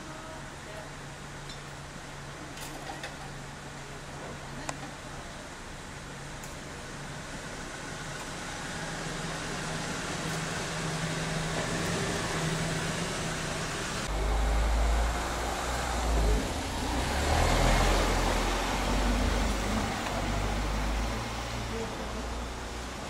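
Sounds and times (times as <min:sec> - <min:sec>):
vehicles running on road: 0:00.0 - 0:23.0.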